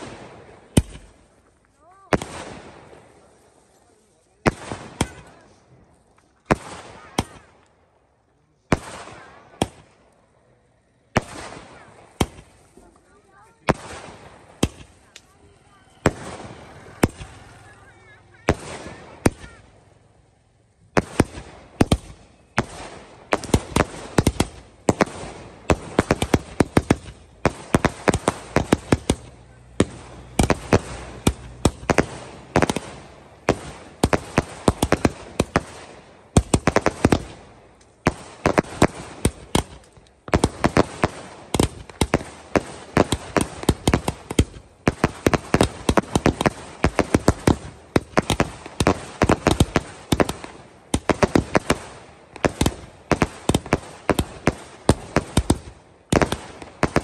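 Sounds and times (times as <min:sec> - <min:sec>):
firecrackers banging and crackling: 0:00.0 - 0:57.0.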